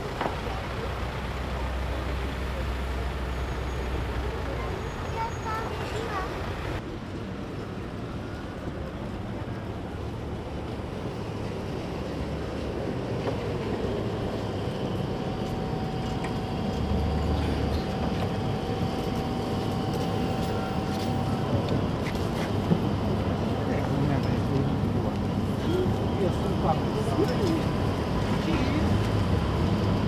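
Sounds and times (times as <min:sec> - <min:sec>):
tram wheels rumbling on rails: 0:00.0 - 0:30.0.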